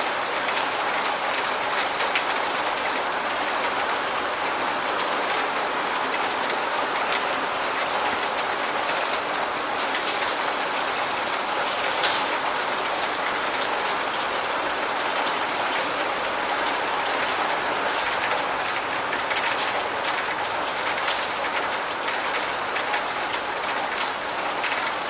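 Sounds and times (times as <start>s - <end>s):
raindrops pattering: 0.0s - 25.0s
steady rain hiss: 0.0s - 25.0s.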